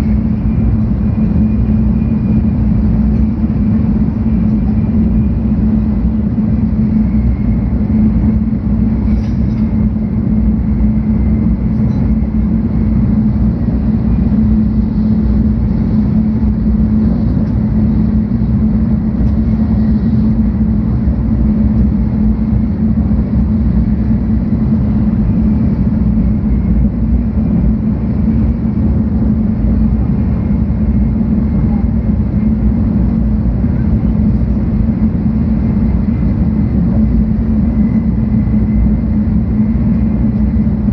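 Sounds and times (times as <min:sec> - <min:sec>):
low hum: 0:00.0 - 0:40.9
train rumbling inside cabin: 0:00.0 - 0:40.9.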